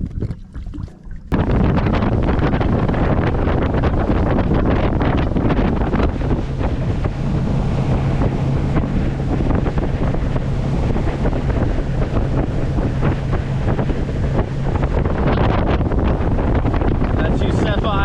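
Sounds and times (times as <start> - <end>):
boat motor droning: 0.0 - 18.0
wind buffeting microphone: 0.0 - 18.0.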